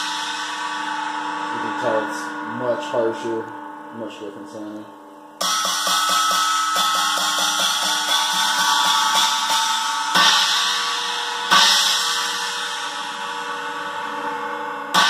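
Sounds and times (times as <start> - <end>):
china cymbal struck with drumstick: 0.0 - 3.4, 5.4 - 15.0
cymbal crashes: 0.0 - 4.6, 5.4 - 15.0.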